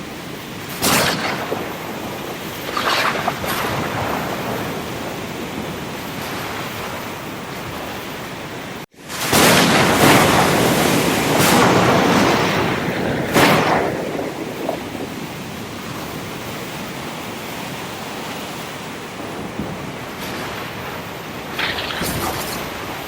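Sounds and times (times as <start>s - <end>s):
ocean waves breaking: 0.0s - 23.0s.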